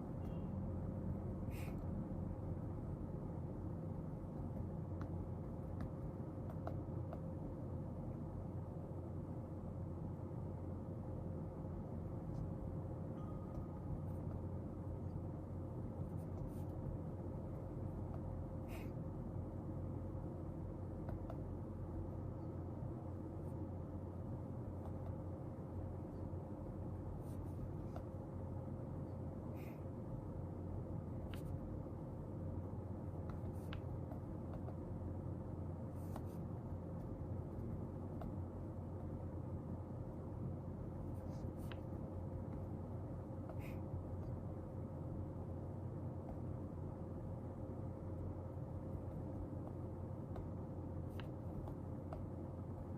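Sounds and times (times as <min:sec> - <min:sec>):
low room hum: 0:00.0 - 0:52.9.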